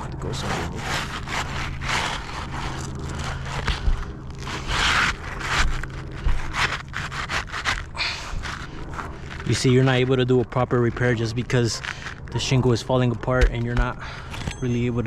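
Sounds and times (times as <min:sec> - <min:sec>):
roof shingle scraping: 0:00.1 - 0:15.0.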